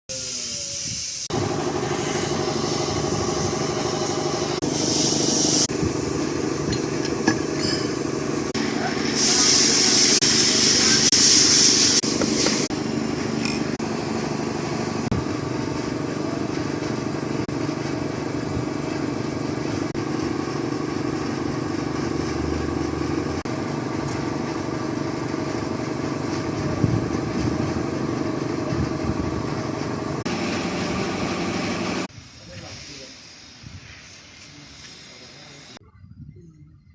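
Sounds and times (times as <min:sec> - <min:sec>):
car engine running: 0:01.3 - 0:32.1.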